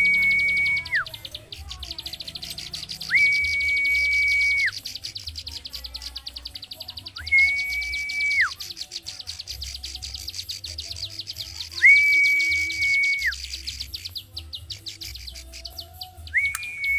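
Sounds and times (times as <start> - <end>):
long level bird whistles: 0.0 - 16.9
songbird clicking: 0.2 - 16.9.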